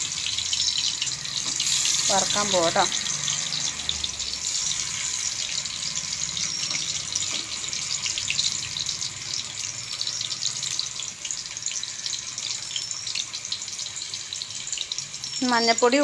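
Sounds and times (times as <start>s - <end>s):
potato slices sizzling in oil: 0.0s - 16.0s.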